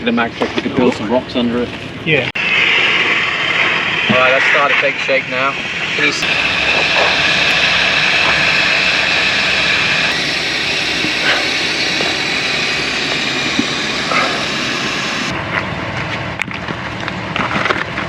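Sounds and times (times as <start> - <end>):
rushing engine noise: 1.8 - 18.0.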